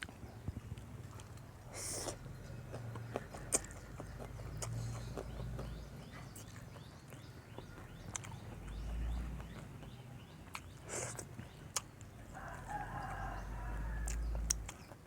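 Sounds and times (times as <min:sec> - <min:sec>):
chewing with mouth smacks: 0:00.0 - 0:15.0.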